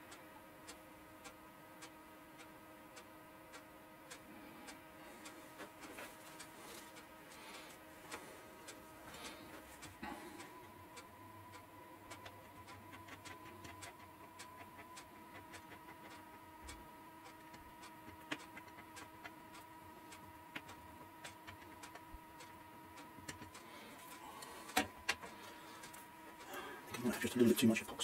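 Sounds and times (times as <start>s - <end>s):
faint high hum: 0.0s - 28.0s.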